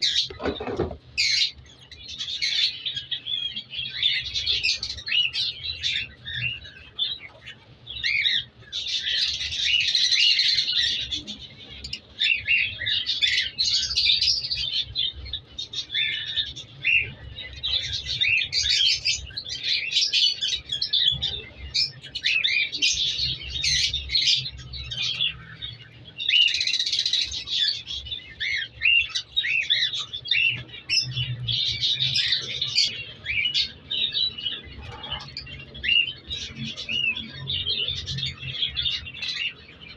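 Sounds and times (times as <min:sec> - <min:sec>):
cockatiels chirping and calling: 0:00.0 - 0:39.9.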